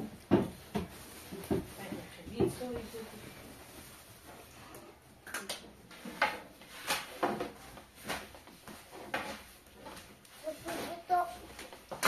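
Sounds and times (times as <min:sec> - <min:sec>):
objects knocking and scraping: 0:00.0 - 0:12.0.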